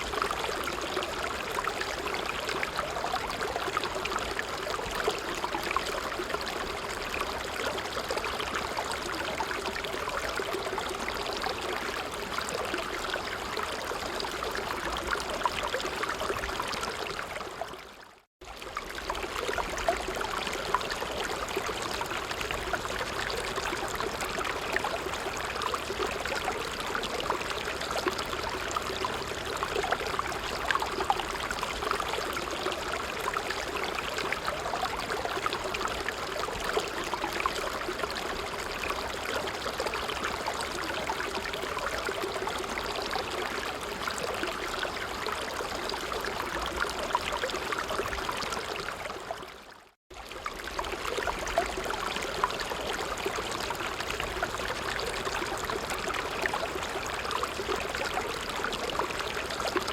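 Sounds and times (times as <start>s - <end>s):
creek babbling: 0.0s - 59.9s.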